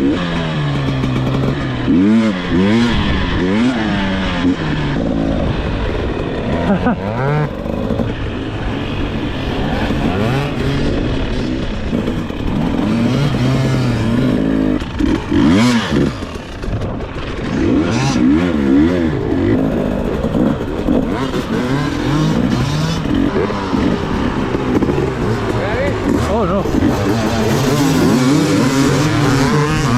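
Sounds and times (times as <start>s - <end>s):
rushes of noise: 0.0s - 29.9s
two-stroke dirt bike engine revving: 0.0s - 29.9s.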